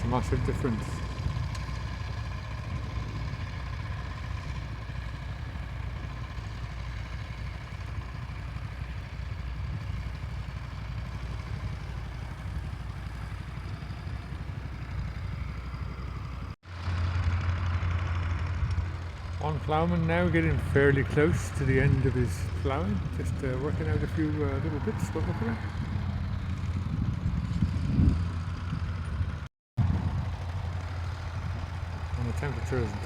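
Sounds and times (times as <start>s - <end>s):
closer engine hum: 0.0s - 33.0s
distant tractor engine droning: 0.0s - 33.0s.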